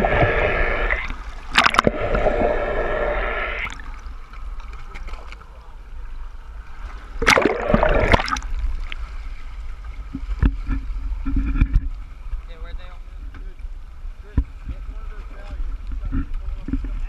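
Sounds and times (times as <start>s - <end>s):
sea water splashing and gurgling: 0.0s - 17.0s.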